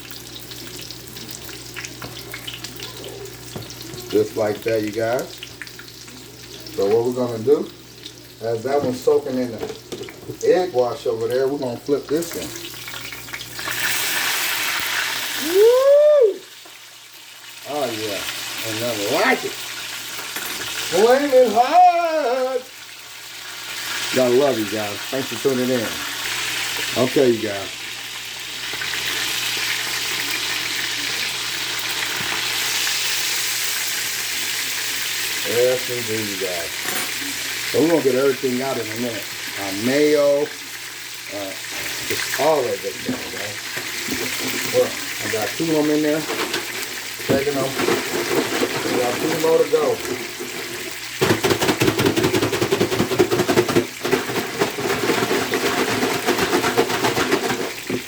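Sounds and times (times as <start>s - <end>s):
chicken frying in hot oil: 0.0s - 58.0s.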